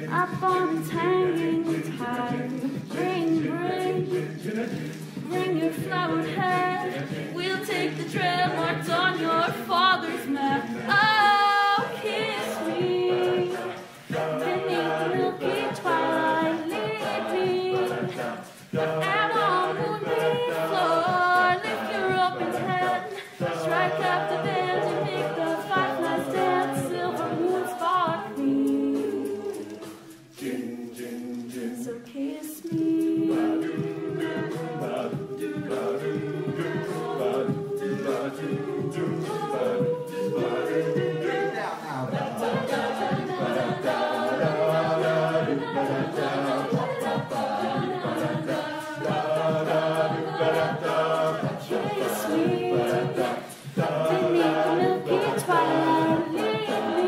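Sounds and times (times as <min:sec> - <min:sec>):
woman singing lead: 0:00.0 - 0:30.3, 0:31.7 - 0:35.8, 0:42.4 - 0:57.0
a cappella group singing in harmony: 0:00.0 - 0:57.0.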